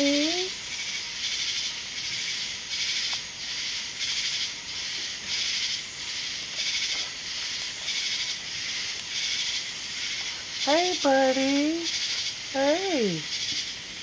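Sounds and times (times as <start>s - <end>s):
night insects pulsing chorus: 0.0s - 14.0s.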